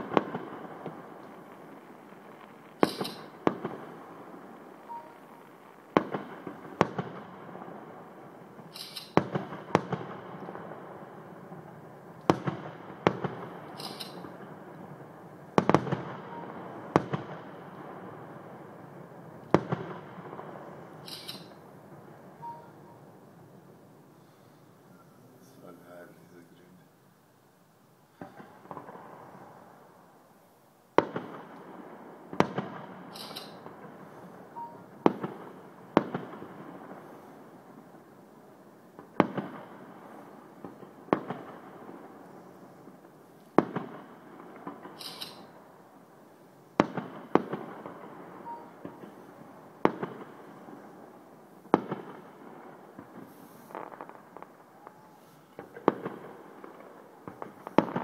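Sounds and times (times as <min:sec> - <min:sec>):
fireworks bursting: 0:00.0 - 0:26.9, 0:28.1 - 0:58.0.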